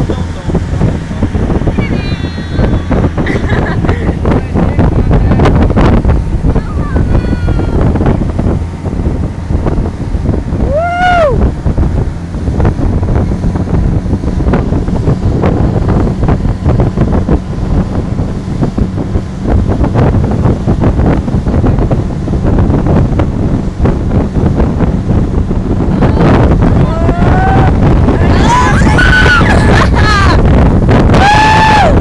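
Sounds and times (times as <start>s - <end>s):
boat wake rushing: 0.0s - 32.0s
wind buffeting microphone: 0.0s - 32.0s.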